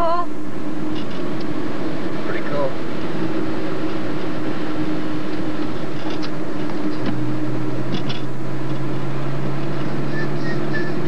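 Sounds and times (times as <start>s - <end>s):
car engine from inside cabin: 0.0s - 11.0s
road noise: 0.0s - 11.0s.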